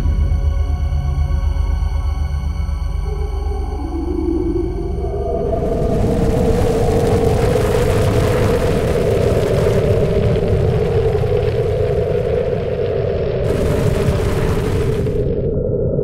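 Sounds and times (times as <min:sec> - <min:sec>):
loud rumble with drone: 0:00.0 - 0:16.0.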